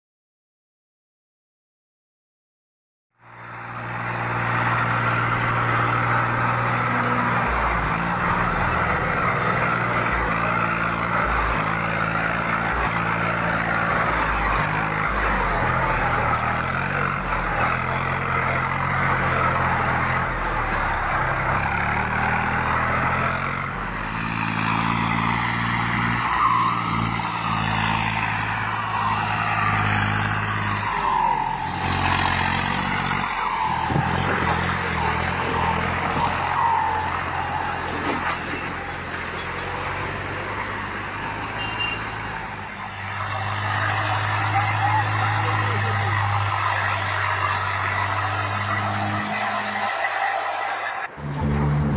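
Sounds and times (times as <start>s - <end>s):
tractor diesel engine revving: 3.2s - 51.9s.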